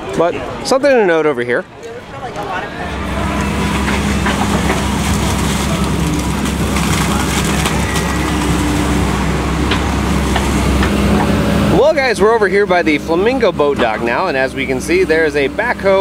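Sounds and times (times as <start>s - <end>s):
excavator diesel engine running: 2.0s - 16.0s.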